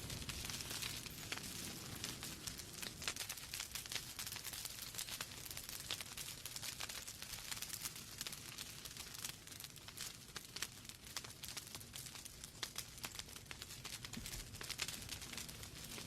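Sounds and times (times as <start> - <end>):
low rumble of flames: 0.0 - 16.0
wood fire popping and snapping: 0.0 - 16.0.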